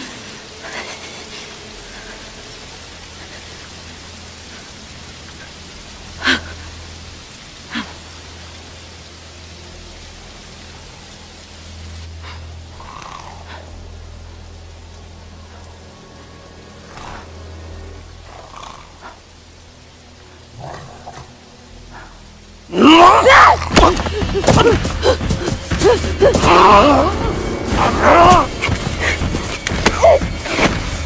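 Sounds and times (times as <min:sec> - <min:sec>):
waterfall rushing water: 0:00.0 - 0:31.0.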